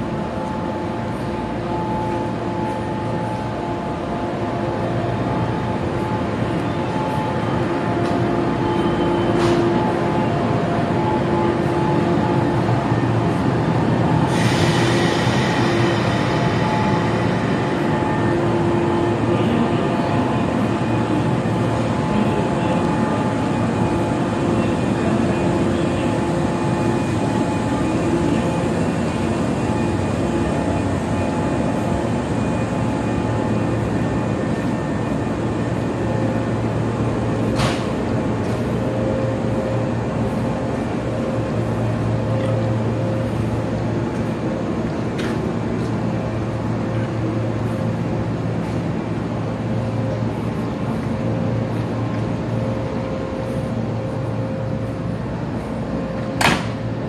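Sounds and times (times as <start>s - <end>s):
train equipment humming: 0.0s - 57.0s.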